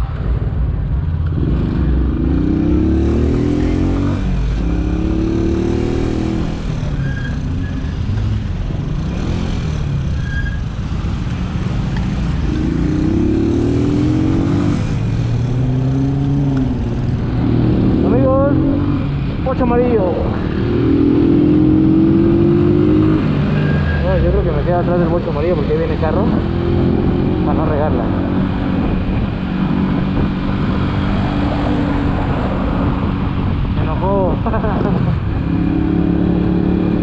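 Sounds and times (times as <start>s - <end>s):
wind and road noise: 0.0s - 37.0s
motorcycle engine accelerating: 1.2s - 6.9s, 10.8s - 37.0s.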